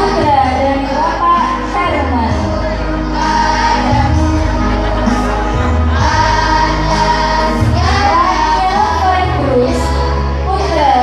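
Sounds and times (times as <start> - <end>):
choir singing a hymn: 0.0 - 11.0
sustained bass accompaniment: 0.0 - 11.0.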